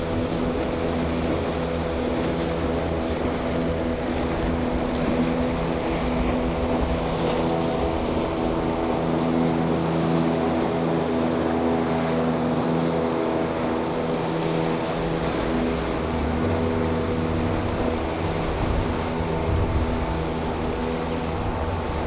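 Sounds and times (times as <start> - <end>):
motorboat engine droning: 0.0 - 22.0.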